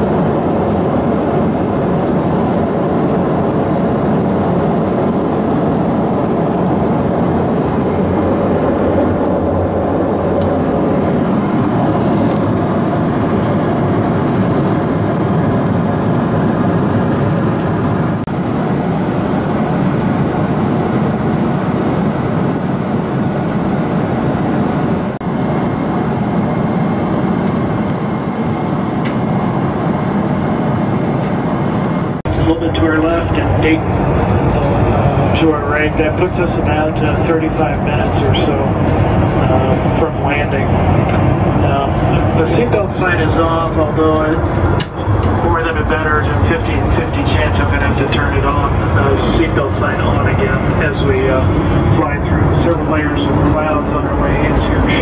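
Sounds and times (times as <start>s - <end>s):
airplane cabin engine rush: 0.0s - 55.0s.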